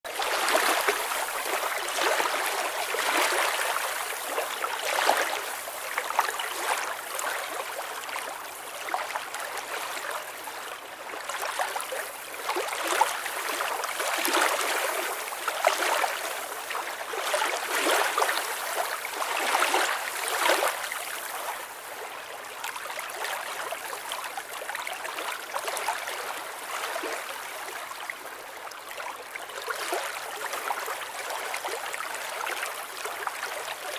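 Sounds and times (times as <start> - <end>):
water lapping at shore: 0.1 - 33.9.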